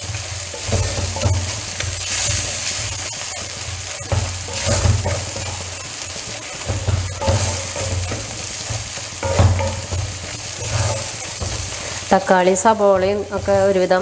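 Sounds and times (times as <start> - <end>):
onions and tomatoes sizzling in oil: 0.0 - 14.0
spoon scraping a pan: 0.0 - 14.0.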